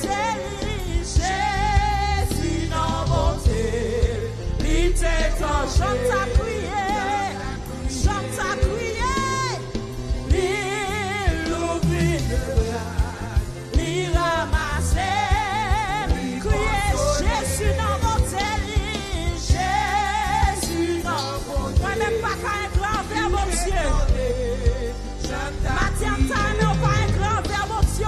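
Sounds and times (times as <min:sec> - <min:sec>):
live band with drums and bass: 0:00.0 - 0:28.0
woman singing gospel: 0:00.0 - 0:28.0.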